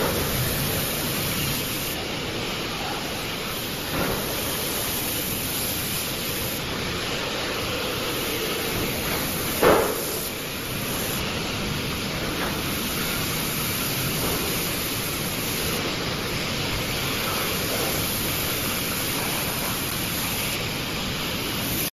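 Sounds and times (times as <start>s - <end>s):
high hiss: 0.0s - 21.9s
laser welding hiss: 0.0s - 21.9s.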